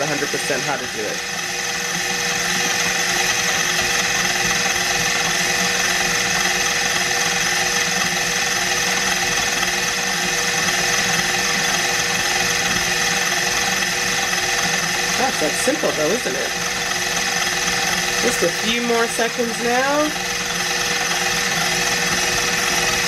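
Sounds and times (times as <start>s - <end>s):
food processor motor whining: 0.0s - 23.0s.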